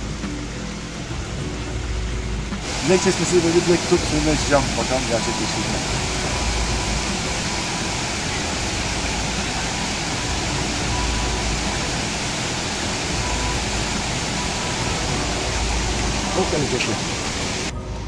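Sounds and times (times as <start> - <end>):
stream cascading: 0.0 - 17.7.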